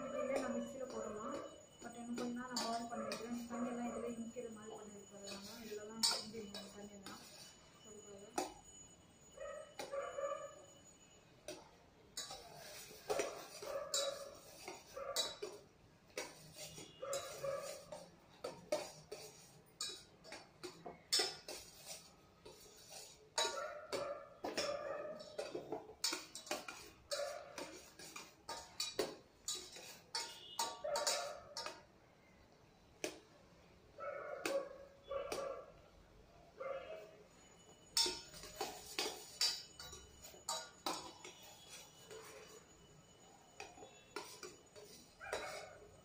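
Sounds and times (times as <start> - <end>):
steel spoon clinking in saucepan: 0.0 - 32.4, 36.9 - 46.0.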